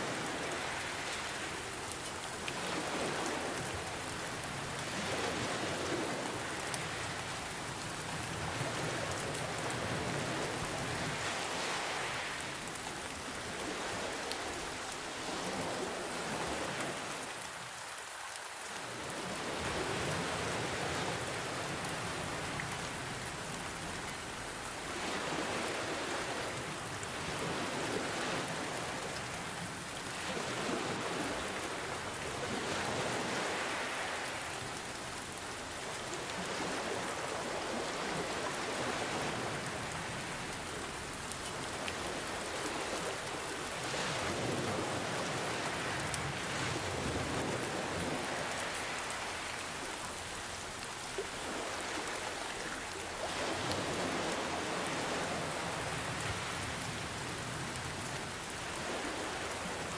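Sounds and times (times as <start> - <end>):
ocean waves washing in: 0.0 - 17.7, 18.8 - 59.9.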